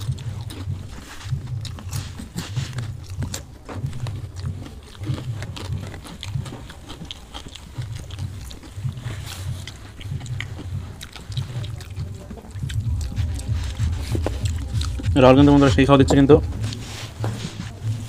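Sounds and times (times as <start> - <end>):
fingers squishing rice: 0.0 - 18.0
people chewing rice: 0.0 - 18.0.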